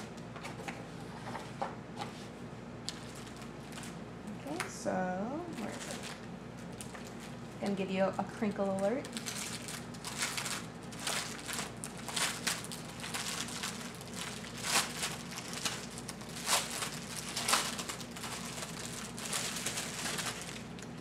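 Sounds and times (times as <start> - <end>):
plastic packaging crinkling: 2.8 - 4.6, 5.4 - 21.0.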